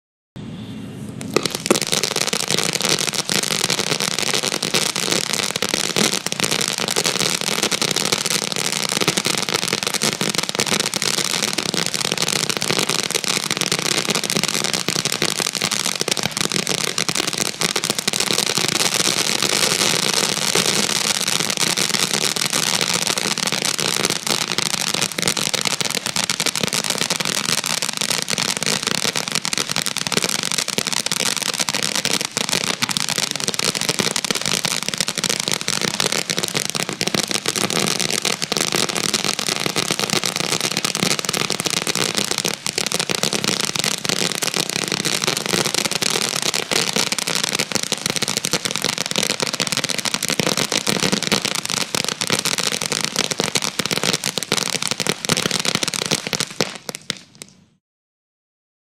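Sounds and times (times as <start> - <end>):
firecrackers crackling: 1.0 - 57.8.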